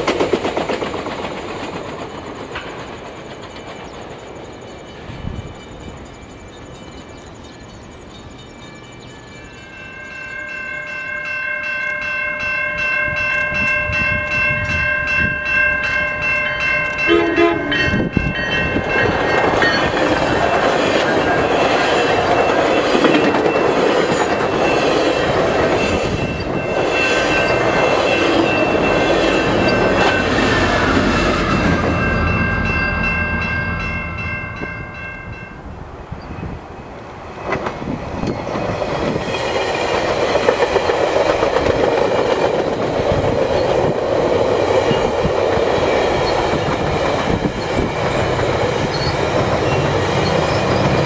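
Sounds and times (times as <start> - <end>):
train wheels clacking on rail: 0.0 - 9.6, 13.0 - 35.1, 37.3 - 51.0
crossing bell ringing: 3.0 - 37.5, 42.3 - 51.0.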